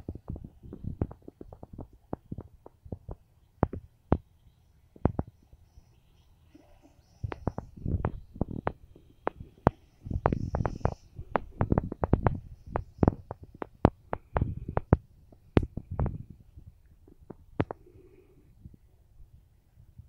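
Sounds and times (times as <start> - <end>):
low microphone rumbles: 0.0 - 5.6, 7.2 - 20.0
sharp pops and crackles: 0.0 - 18.3.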